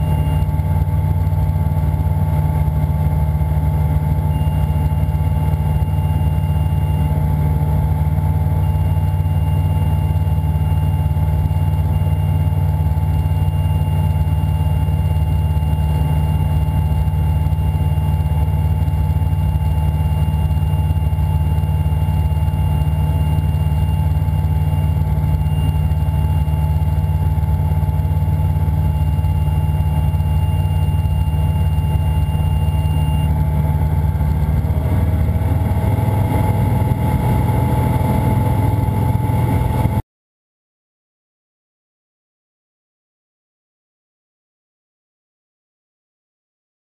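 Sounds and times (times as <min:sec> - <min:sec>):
aircraft engine and propeller droning: 0:00.0 - 0:40.0.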